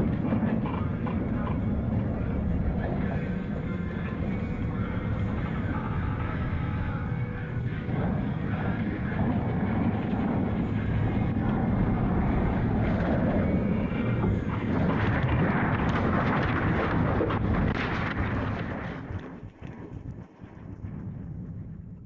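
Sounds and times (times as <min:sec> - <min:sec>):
storm wind rushing: 0:00.0 - 0:22.0.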